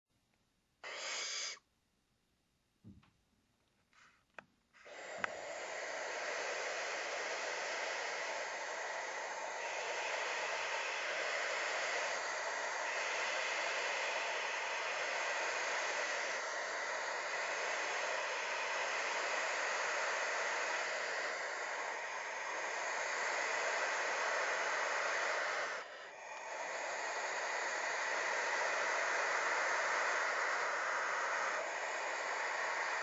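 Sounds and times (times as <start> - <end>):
barn owls hissing: 0.8 - 1.7, 4.8 - 33.0.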